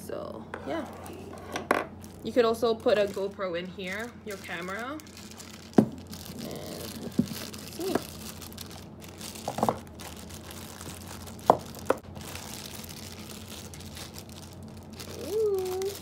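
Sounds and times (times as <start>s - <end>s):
plastic bag crinkling: 1.0s - 16.0s.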